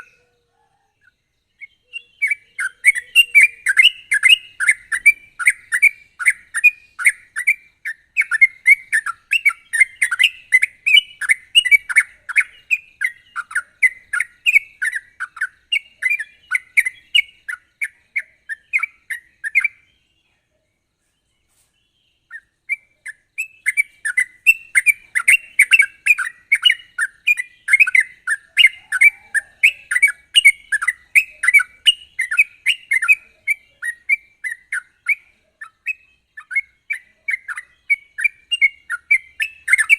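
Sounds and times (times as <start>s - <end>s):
bird singing bubbly chirps: 0.0s - 0.3s, 1.0s - 20.3s, 22.0s - 39.9s.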